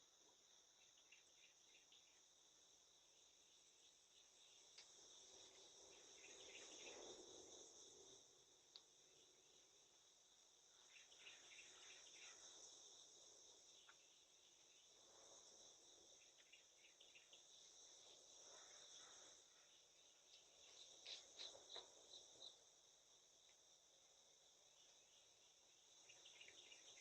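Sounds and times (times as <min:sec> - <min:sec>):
insect chorus trilling: 0:00.0 - 0:27.0
short insect chirps: 0:00.0 - 0:27.0.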